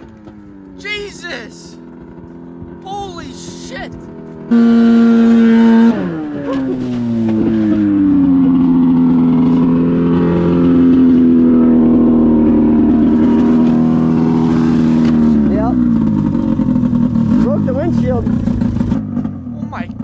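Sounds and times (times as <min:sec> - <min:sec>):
snowmobile engine revving: 0:00.8 - 0:20.0.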